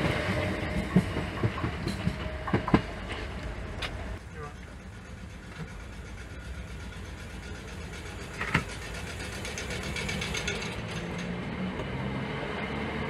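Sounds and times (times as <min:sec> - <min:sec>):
train motors and wheels humming: 0:00.0 - 0:13.0.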